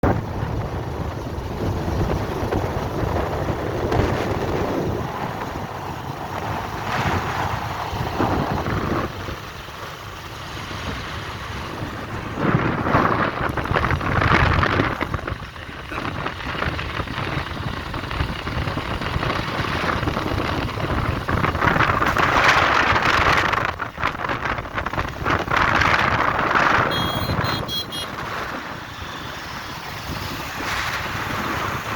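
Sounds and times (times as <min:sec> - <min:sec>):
wind on microphone: 0:00.0 - 0:09.5, 0:10.8 - 0:31.9.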